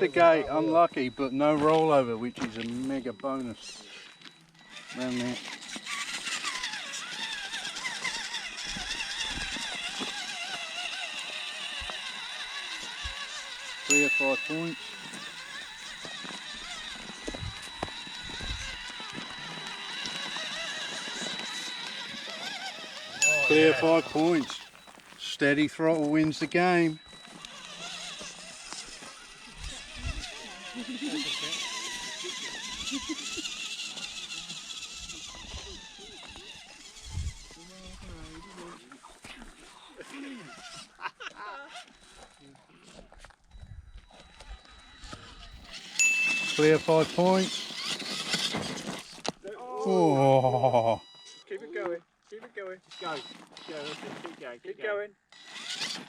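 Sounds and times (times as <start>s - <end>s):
electric motor and gears whining: 0.0s - 25.4s, 26.2s - 39.9s, 43.1s - 49.5s, 55.4s - 56.0s.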